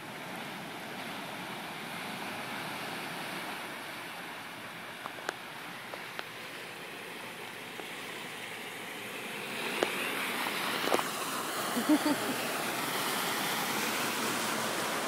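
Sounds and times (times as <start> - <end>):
wind and rain: 0.0 - 15.0.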